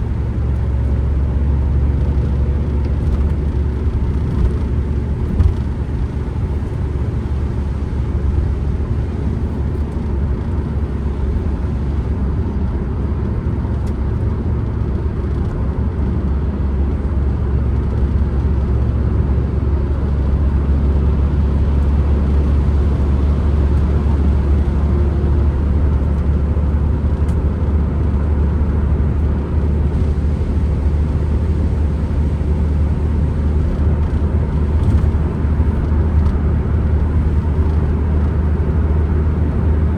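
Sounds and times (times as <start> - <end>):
van engine and road noise: 0.0 - 39.9.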